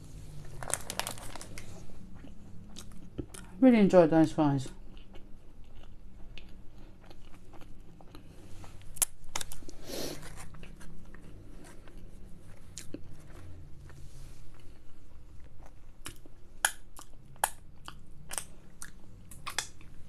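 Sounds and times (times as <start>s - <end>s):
chewing and crunching food: 0.1s - 20.0s.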